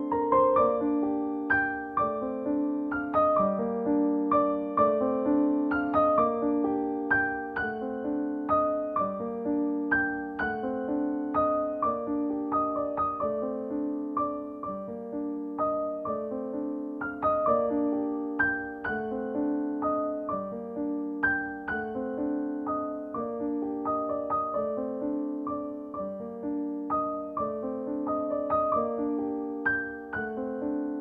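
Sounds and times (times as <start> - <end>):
calm piano music: 0.0 - 31.0.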